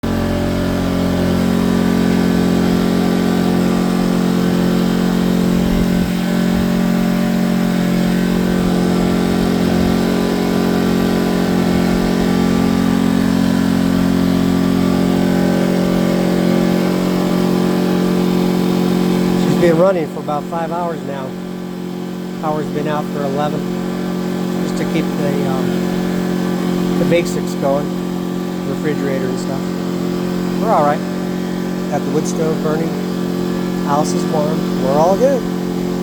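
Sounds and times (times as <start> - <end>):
portable generator engine running: 0.0 - 36.0.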